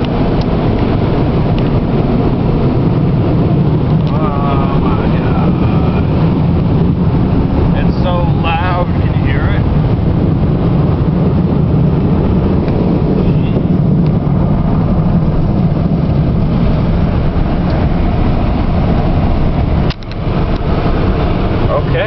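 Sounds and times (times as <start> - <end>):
car wash air blowers: 0.0 - 22.0.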